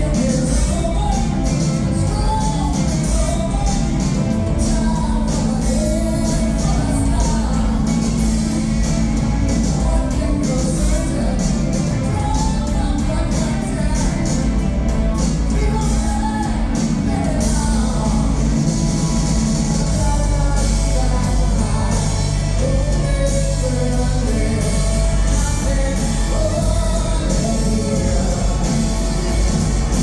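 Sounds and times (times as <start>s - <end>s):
lead vocal singing: 0.0s - 30.0s
live rock band playing: 0.0s - 30.0s.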